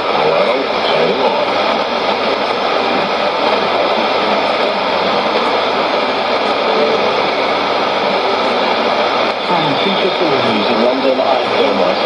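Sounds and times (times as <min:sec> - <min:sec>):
shortwave radio static hiss: 0:00.0 - 0:12.0.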